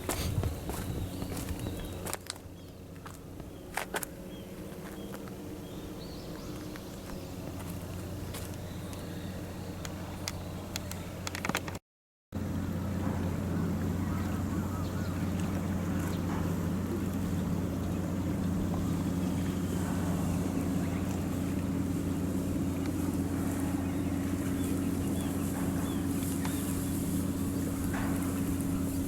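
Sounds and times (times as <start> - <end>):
shipboard machinery drone: 0.0 - 11.6, 12.4 - 29.0.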